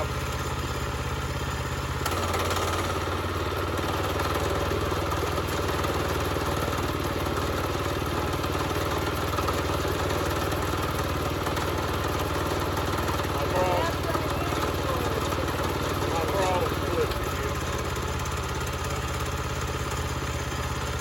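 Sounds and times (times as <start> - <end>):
sawmill gasoline engine running: 0.0 - 21.0.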